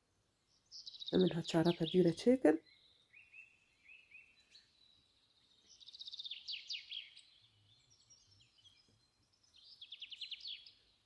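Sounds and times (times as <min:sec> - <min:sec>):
faint bird song: 0:00.0 - 0:11.0.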